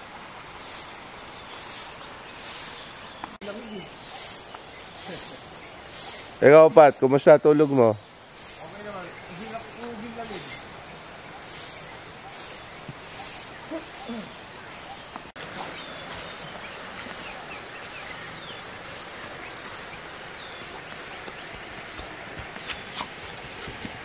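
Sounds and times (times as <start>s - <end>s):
insects chirping: 0.0s - 24.0s
outdoor hiss: 0.0s - 24.0s.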